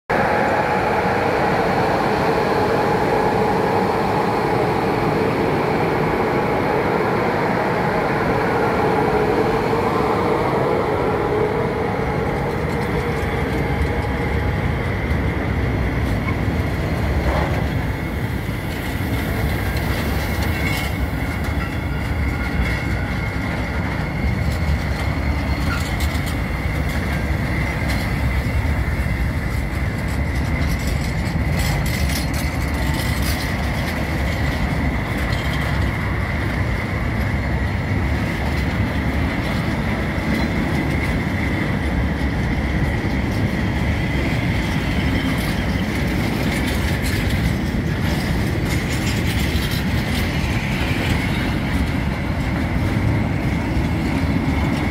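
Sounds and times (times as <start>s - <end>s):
electric locomotive hum: 0.1s - 54.9s
wagon wheels rumbling on rails: 8.8s - 54.9s.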